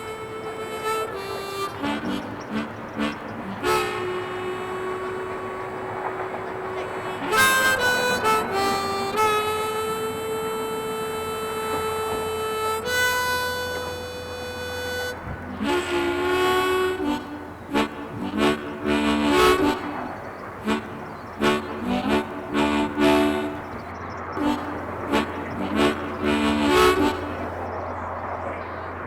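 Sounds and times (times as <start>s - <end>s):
blues harmonica music: 0.0s - 27.7s.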